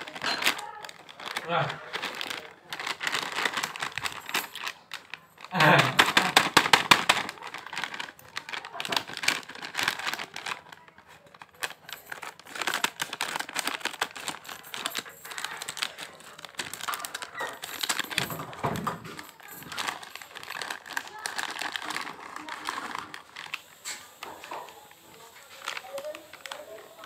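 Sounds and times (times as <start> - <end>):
scissors cutting packet: 0.0 - 27.0
snack packet crinkling: 0.0 - 27.0.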